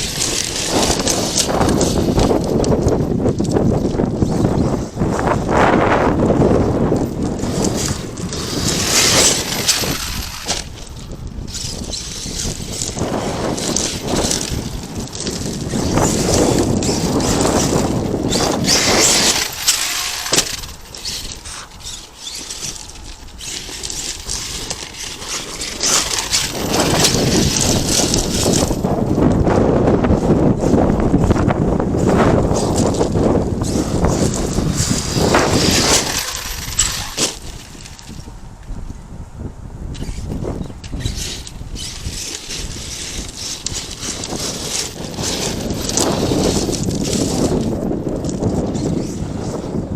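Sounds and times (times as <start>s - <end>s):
toy truck rattling: 0.0s - 5.6s, 6.2s - 29.4s, 30.1s - 38.3s, 39.9s - 49.4s
tyres crunching on gravel: 0.0s - 38.3s, 41.0s - 49.1s.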